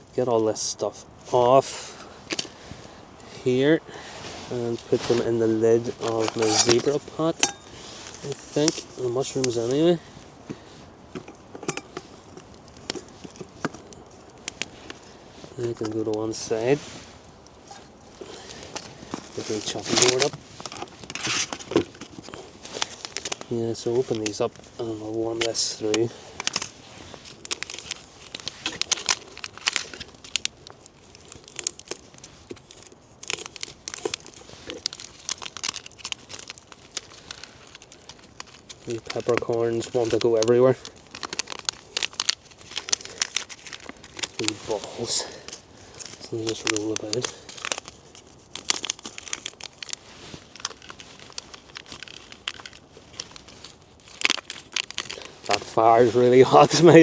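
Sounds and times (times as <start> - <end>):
sachets crinkling and tearing: 0.0 - 57.0.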